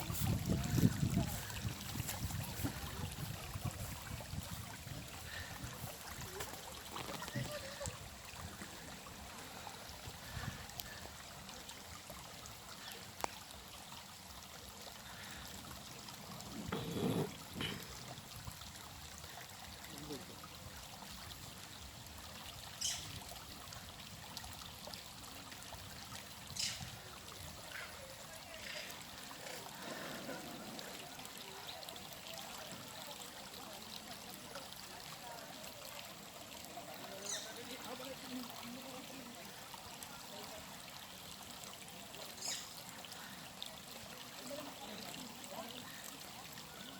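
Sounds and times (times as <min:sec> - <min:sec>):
water trickling: 0:00.0 - 0:46.9.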